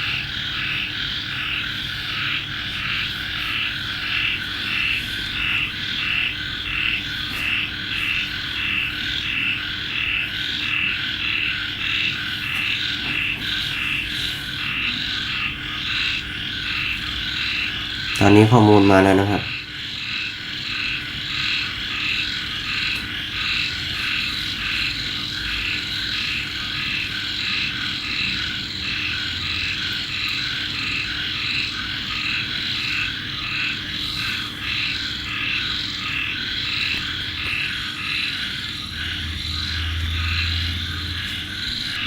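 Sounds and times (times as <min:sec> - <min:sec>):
chorus of calling animals: 0:00.0 - 0:42.0
faint steady hum: 0:00.0 - 0:42.0.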